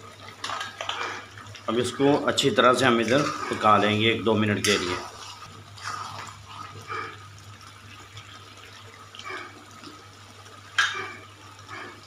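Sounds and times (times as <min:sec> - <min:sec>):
gravy bubbling and sizzling: 0:00.0 - 0:12.0.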